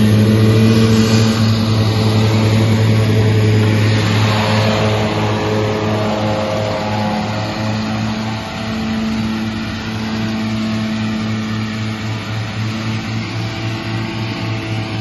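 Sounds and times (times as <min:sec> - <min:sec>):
mower pulsing low hum: 0:00.0 - 0:15.0
tractor engine drone: 0:00.0 - 0:15.0.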